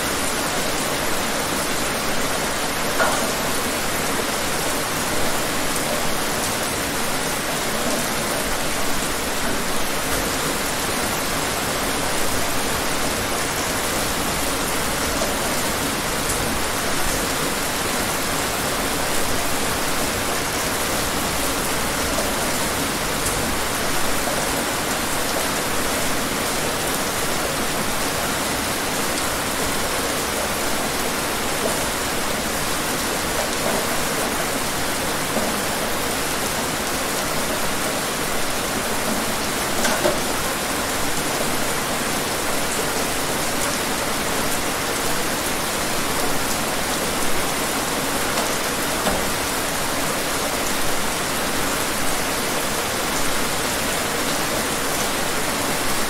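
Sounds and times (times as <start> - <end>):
louder raindrops: 0.0 - 56.0
steady rain falling: 0.0 - 56.0.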